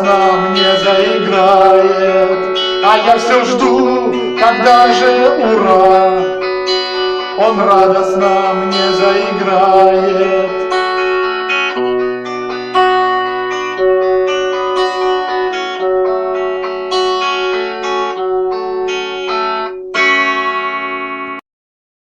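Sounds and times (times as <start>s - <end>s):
guitar melody over chords: 0.0s - 21.4s.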